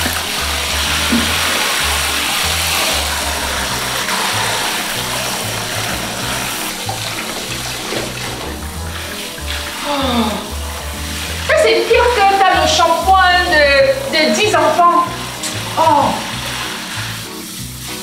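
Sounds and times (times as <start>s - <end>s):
background music with bassline: 0.0s - 18.0s
shower head spraying water: 0.0s - 18.0s.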